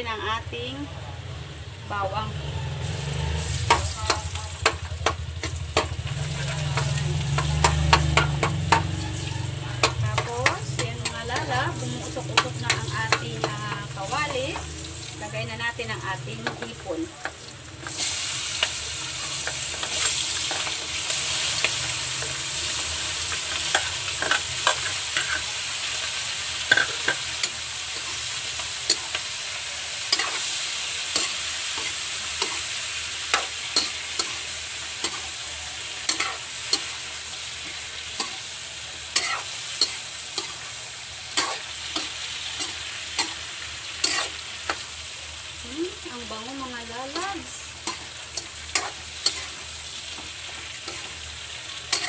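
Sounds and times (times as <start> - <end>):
shrimp sizzling in a wok: 0.0 - 52.0
metal spoon scraping a wok: 2.9 - 14.6, 16.3 - 44.9, 47.1 - 52.0.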